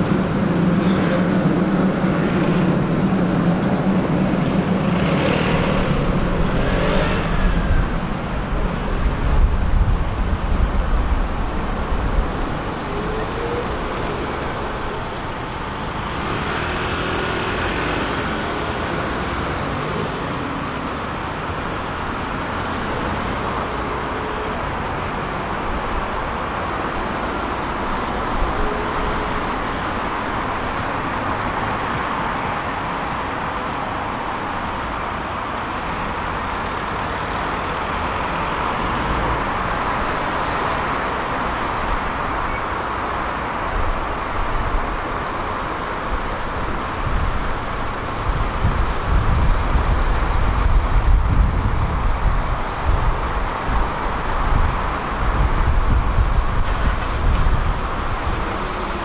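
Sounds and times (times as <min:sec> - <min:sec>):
street traffic: 0:00.0 - 0:59.0
tram rumbling on rails: 0:00.0 - 0:59.0.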